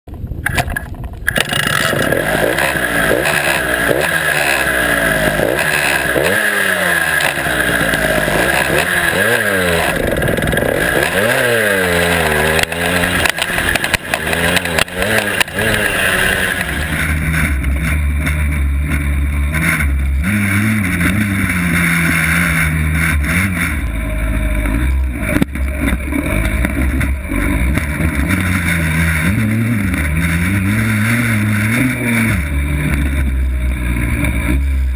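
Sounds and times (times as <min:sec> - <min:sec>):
two-stroke dirt bike engine revving: 0:01.3 - 0:34.9.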